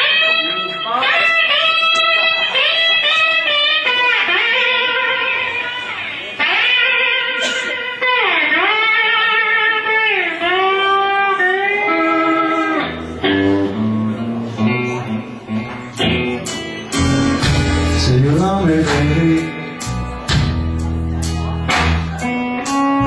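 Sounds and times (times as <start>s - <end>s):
bent lead guitar notes: 0.0s - 23.0s
blues band playing live: 0.0s - 23.0s.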